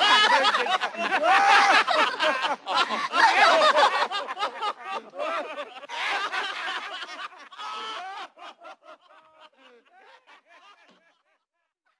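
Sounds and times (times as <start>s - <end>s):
people laughing and snickering: 0.0s - 11.4s.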